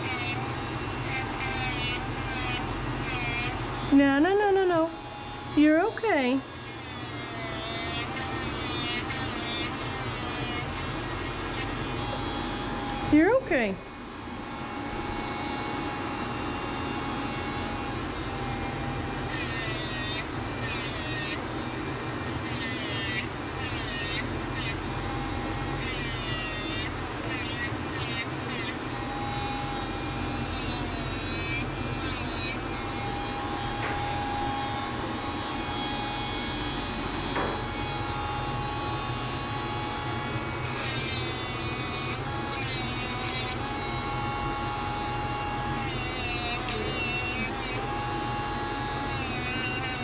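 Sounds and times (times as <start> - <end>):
grinding dog's toenails: 0.0 - 4.8, 5.5 - 13.6, 18.4 - 34.9, 35.6 - 50.0
rotary nail grinder whining: 0.0 - 50.0.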